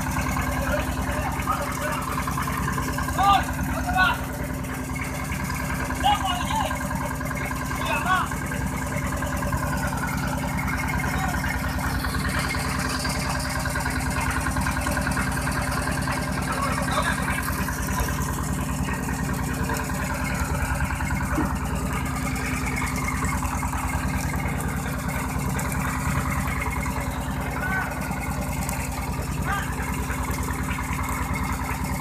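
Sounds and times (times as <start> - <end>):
boat engine throbbing: 0.0 - 32.0.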